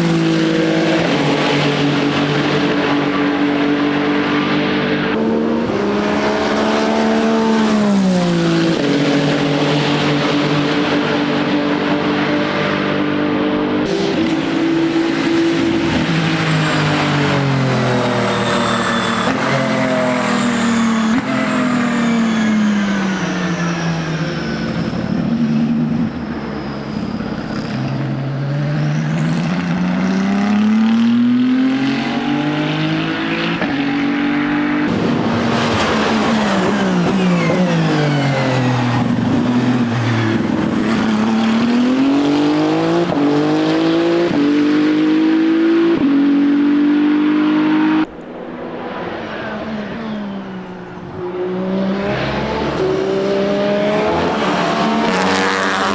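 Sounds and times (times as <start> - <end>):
race car engine downshifting and accelerating: 0.0 - 55.9.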